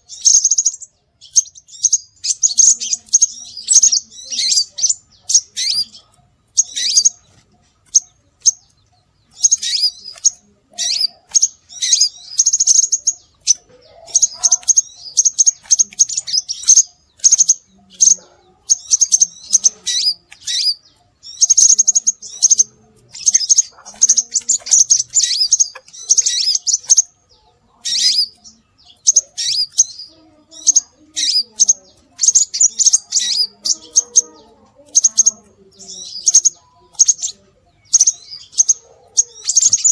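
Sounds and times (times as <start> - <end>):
bird chirping shrilly: 0.0 - 39.9.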